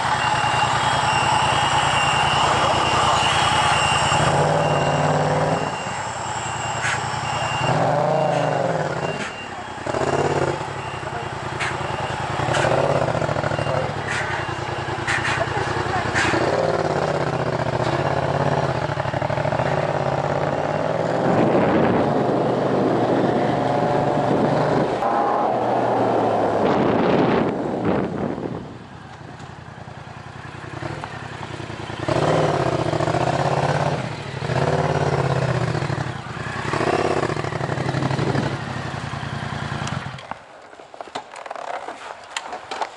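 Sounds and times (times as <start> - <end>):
motorcycle engine revving: 0.0 - 40.4.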